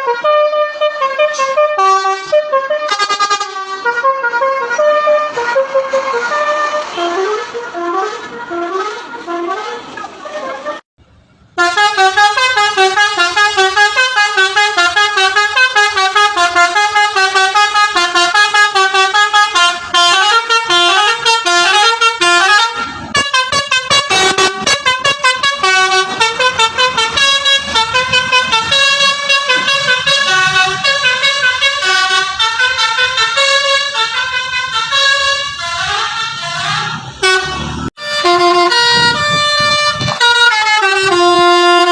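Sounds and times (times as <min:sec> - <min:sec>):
musical air horn tune: 0:00.0 - 0:10.8, 0:11.6 - 0:41.9.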